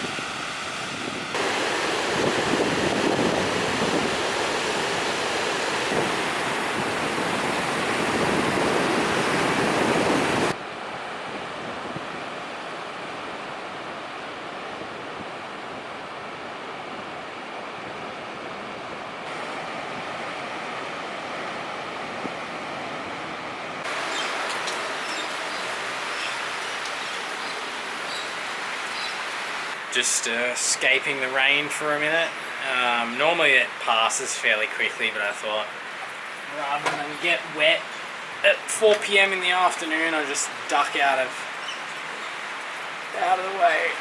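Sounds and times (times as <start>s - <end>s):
ocean surf washing: 0.0s - 44.0s
wind: 0.0s - 44.0s.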